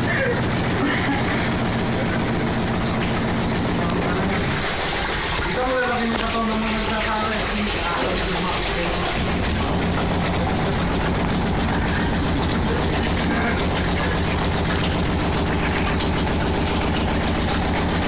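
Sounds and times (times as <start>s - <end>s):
washing machine motor humming: 0.0s - 18.0s.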